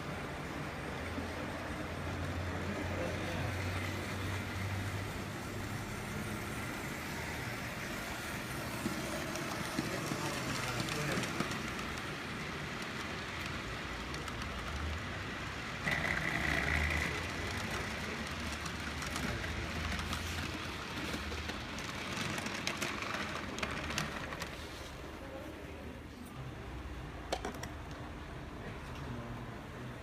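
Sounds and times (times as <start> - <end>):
model train rolling rattle: 0.0 - 25.4.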